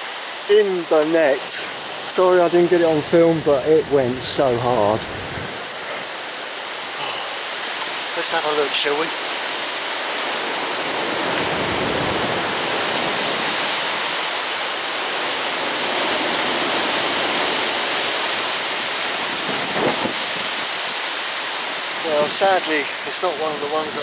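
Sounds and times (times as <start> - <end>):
wind roaring: 0.0 - 24.0.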